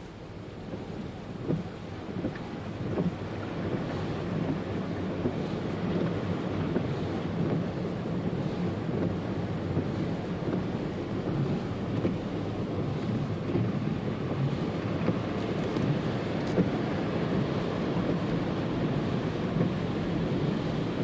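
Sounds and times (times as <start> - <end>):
road and engine noise: 0.0 - 21.0
water rushing against tyres: 0.0 - 21.0.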